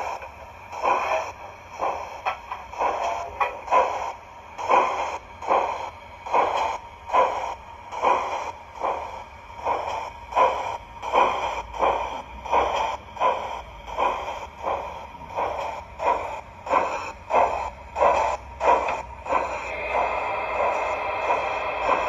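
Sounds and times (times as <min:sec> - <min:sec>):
model steam engine chuffs: 0:00.0 - 0:22.0.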